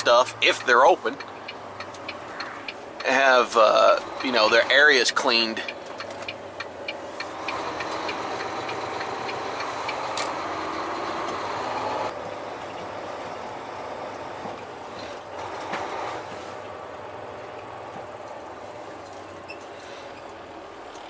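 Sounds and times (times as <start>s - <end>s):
road and tyre noise: 0.0s - 21.0s
truck engine hum: 0.0s - 21.0s.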